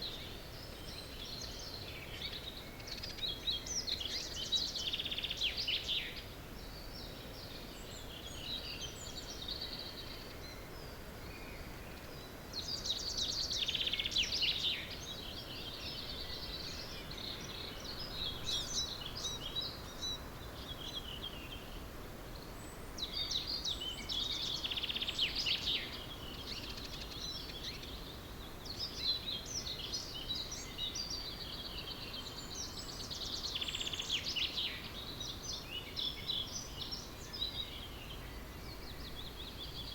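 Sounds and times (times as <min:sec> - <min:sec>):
bird calls and chirps: 0:00.0 - 0:39.9
loud falling birdsong: 0:00.0 - 0:39.9
songbirds singing: 0:00.0 - 0:39.9.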